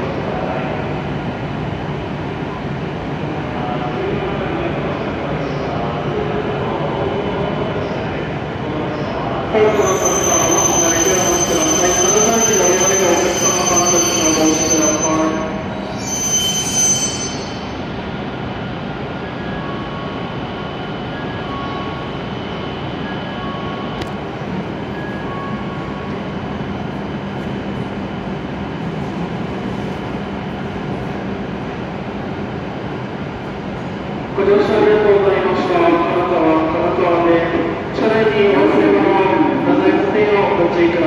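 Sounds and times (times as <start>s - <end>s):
train humming at platform: 0.0s - 41.0s.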